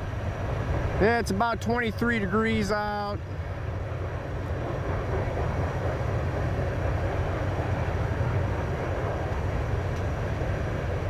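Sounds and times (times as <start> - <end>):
freight train rolling past: 0.0 - 11.0.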